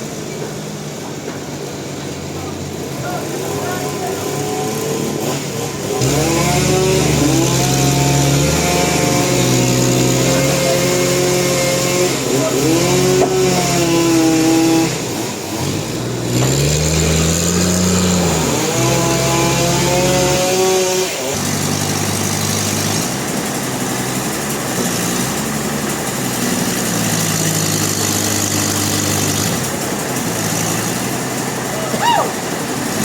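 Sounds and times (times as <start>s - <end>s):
engine running under load: 0.0s - 33.0s.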